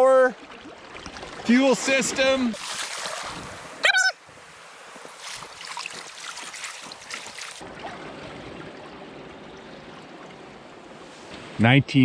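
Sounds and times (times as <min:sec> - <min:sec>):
water trickling and lapping: 0:00.2 - 0:11.6.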